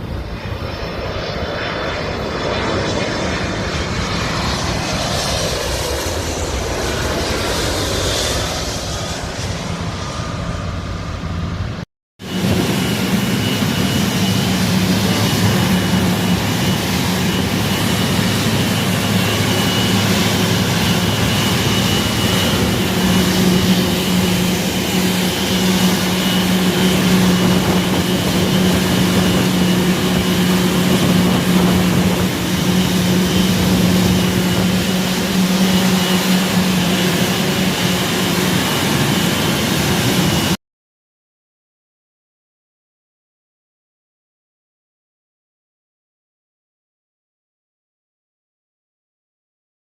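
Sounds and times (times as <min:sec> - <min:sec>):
aircraft engine humming with whine: 0:00.0 - 0:40.6.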